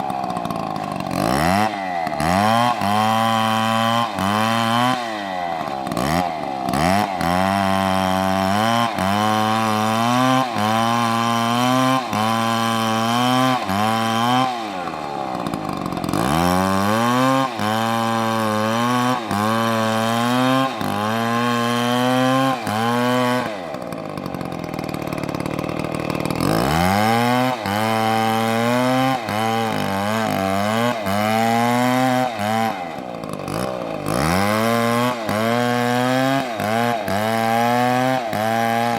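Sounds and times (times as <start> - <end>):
chainsaw cutting into wood: 0.0 - 38.9.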